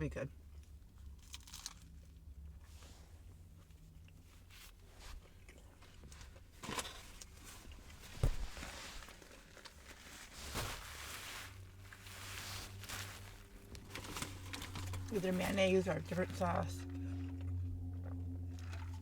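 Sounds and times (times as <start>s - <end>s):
chewing and crunching food: 0.4s - 10.4s, 11.3s - 19.0s.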